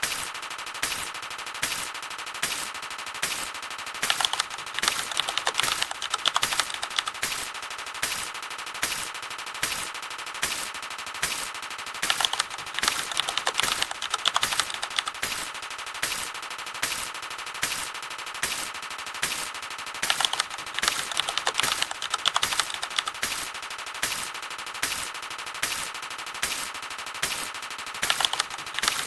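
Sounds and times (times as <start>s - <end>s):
rapid clicking sound effects: 0.0s - 29.0s.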